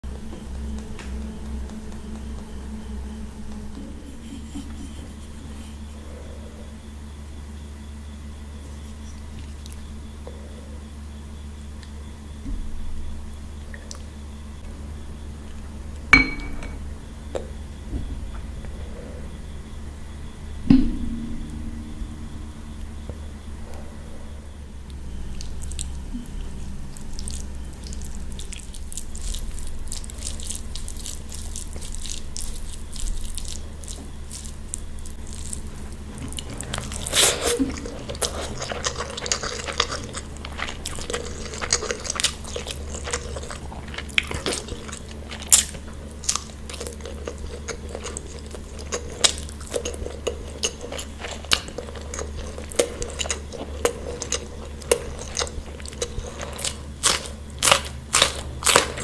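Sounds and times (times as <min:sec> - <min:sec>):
steady low hum: 0:00.0 - 0:59.0
biting and chewing: 0:11.7 - 0:59.0.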